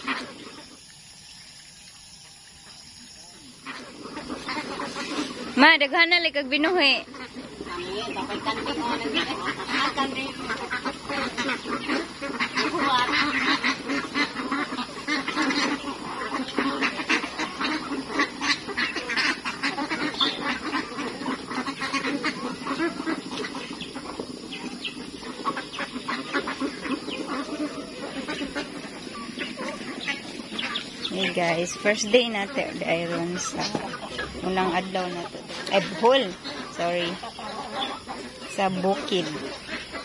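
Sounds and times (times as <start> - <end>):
ducks quacking: 0.0 - 1.2, 3.0 - 40.0.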